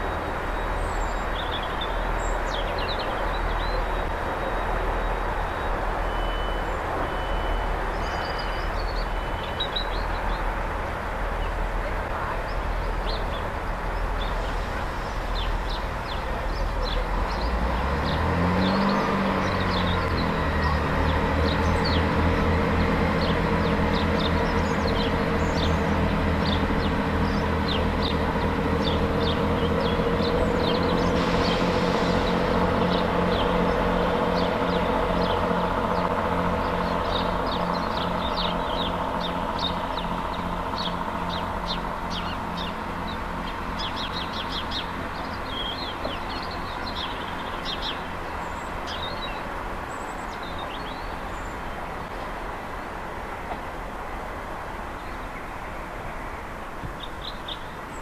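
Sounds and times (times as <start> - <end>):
small birds chirping: 0.0 - 10.5, 11.3 - 52.3, 55.0 - 58.0
train diesel engines running: 0.0 - 58.0.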